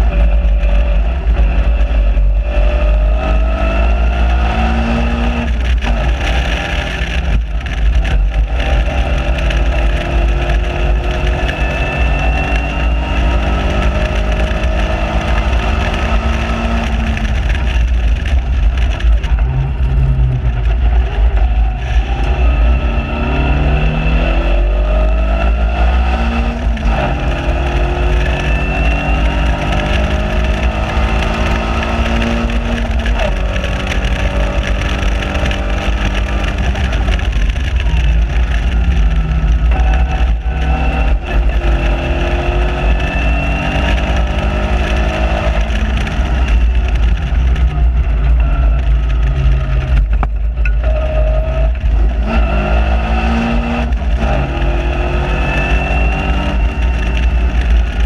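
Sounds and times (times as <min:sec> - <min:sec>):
car engine accelerating hard: 0:00.0 - 0:58.0
wind rumble on microphone: 0:00.0 - 0:58.0.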